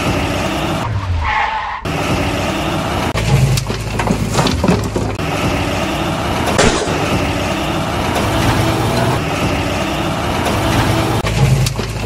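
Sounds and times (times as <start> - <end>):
truck engine running: 0.0 - 1.0, 1.8 - 12.0.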